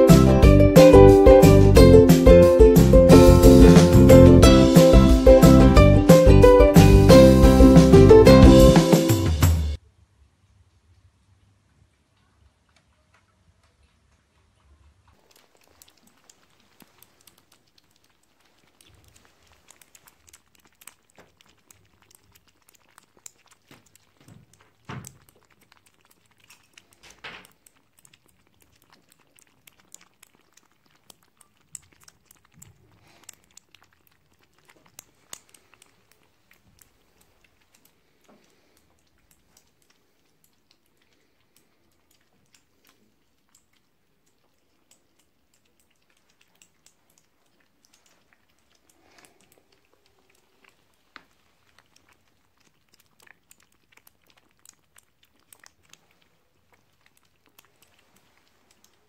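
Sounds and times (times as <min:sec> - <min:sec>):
kittens lapping milk: 0:00.0 - 0:09.8, 0:12.2 - 0:59.0.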